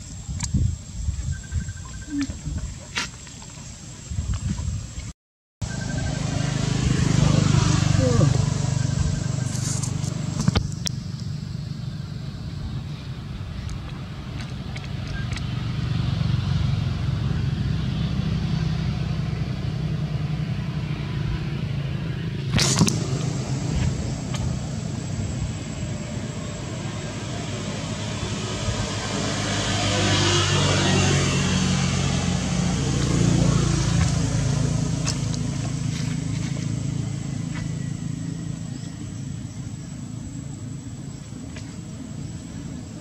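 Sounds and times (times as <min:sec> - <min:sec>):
vehicle passing: 0:05.6 - 0:42.9
vehicle engine humming: 0:05.6 - 0:43.0.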